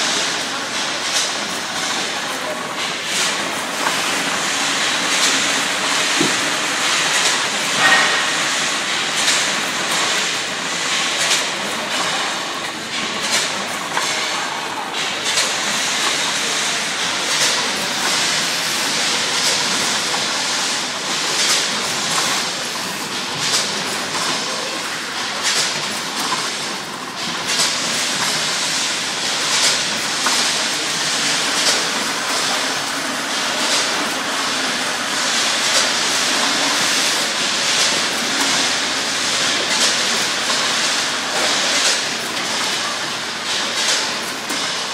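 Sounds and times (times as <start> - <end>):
bagging machine running: 0.0 - 44.9.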